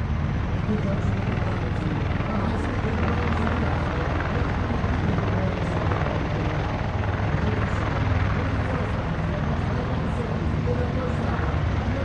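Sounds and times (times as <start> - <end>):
aircraft rotor and turbine din: 0.0 - 12.0.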